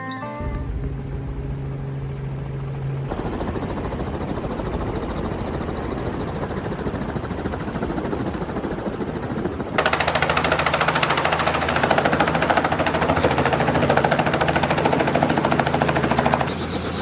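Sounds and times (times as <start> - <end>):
helicopter rotor chopping: 0.4 - 17.0.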